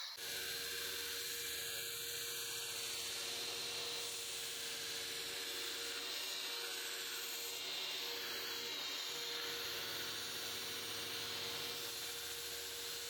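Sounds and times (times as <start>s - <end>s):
electric power tool running: 0.0s - 13.0s.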